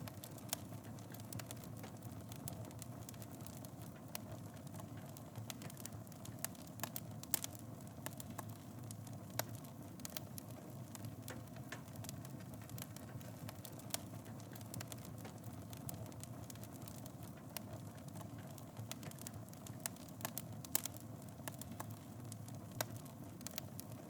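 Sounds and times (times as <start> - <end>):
fire crackling and popping: 0.0 - 24.0
wood fire rumbling: 0.0 - 24.0.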